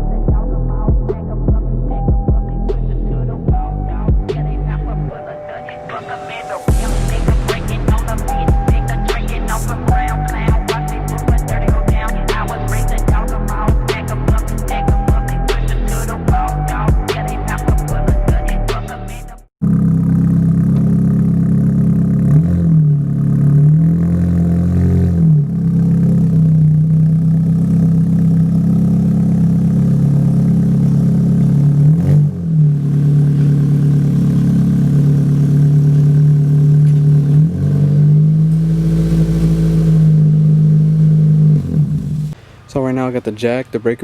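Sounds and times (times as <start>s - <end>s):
car engine running and revving: 6.6s - 42.4s.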